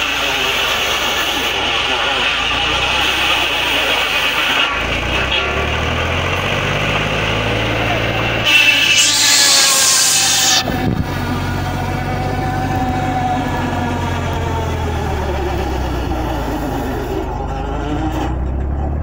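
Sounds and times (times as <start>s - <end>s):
saw blade cutting plank: 0.0s - 19.0s
tractor engine running: 0.0s - 19.0s.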